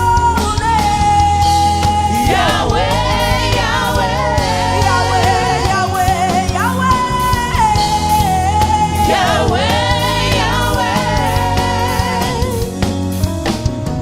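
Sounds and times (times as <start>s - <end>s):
voices singing gospel song: 0.0s - 13.2s
instrumental accompaniment: 0.0s - 14.0s.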